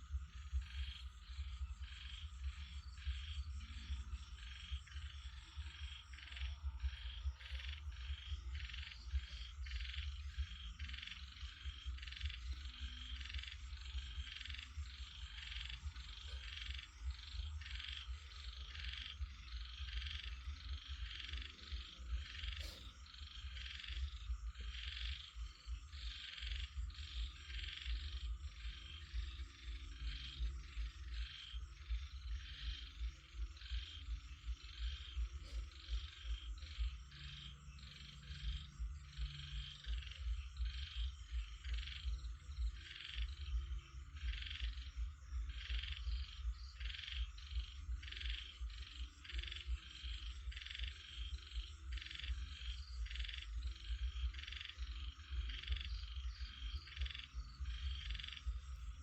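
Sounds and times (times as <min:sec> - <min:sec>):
frogs croaking: 0:00.0 - 0:59.0
steady low rumble: 0:00.0 - 0:59.0.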